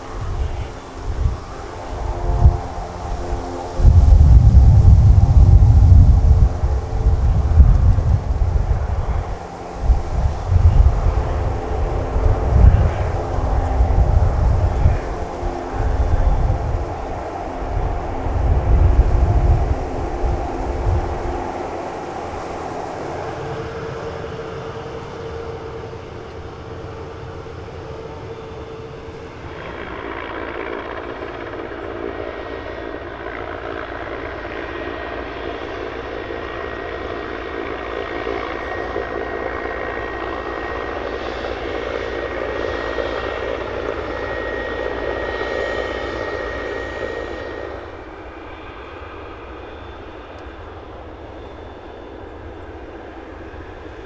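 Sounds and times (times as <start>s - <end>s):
aircraft engines whining: 0.0s - 54.0s.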